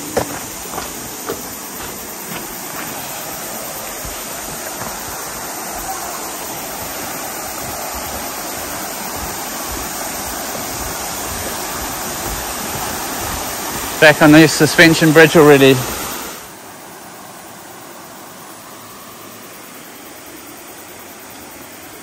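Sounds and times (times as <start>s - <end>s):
rushing river water: 0.0s - 22.0s.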